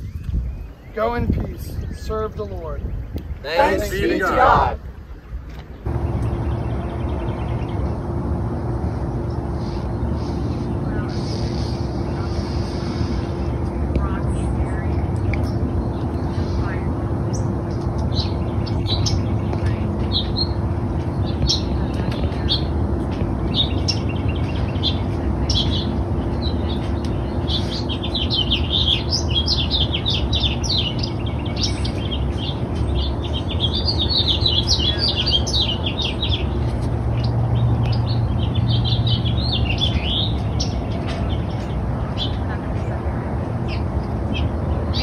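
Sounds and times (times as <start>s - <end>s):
birds chirping and singing: 0.0s - 45.0s
steady low rumble: 0.0s - 45.0s.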